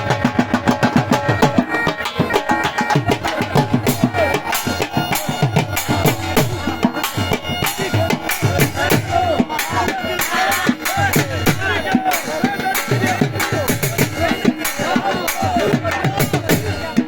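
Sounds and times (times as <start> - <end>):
music with drum beat and melody: 0.0 - 17.0.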